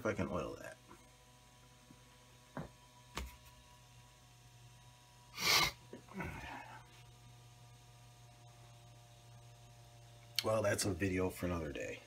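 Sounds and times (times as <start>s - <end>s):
cooling fan humming: 0.0s - 12.0s.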